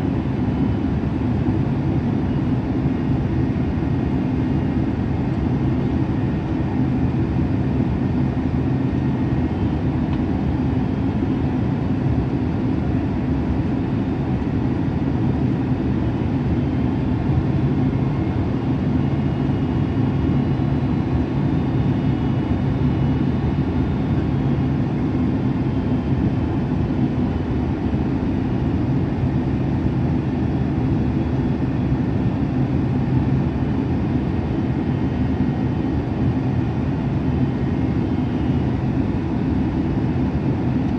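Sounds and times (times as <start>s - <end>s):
jet airliner cabin noise: 0.0s - 40.9s.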